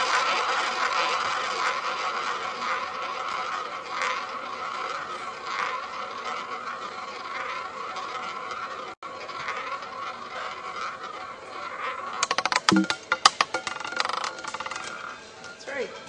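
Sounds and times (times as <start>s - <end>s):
roulette ball rolling: 0.0s - 15.6s.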